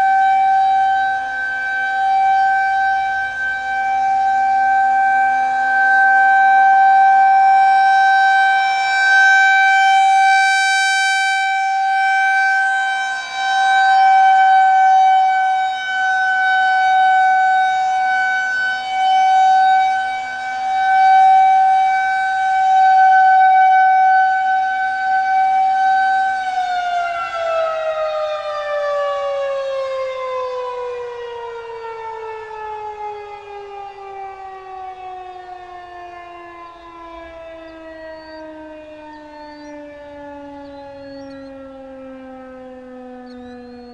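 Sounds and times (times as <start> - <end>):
rotating siren wailing: 0.0 - 43.9
siren winding down: 0.0 - 43.9.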